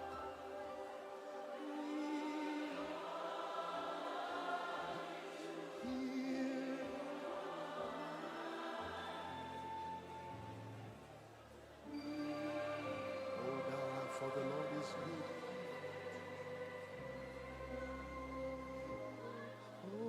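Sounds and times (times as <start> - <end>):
choir singing gospel music: 0.0 - 20.0.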